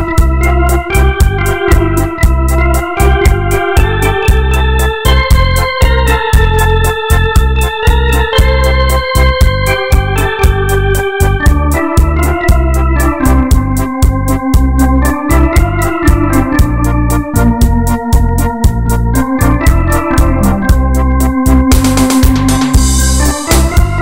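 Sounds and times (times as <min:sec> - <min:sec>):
organ playing legato melody: 0:00.0 - 0:24.0
steady accompaniment beat: 0:00.0 - 0:24.0.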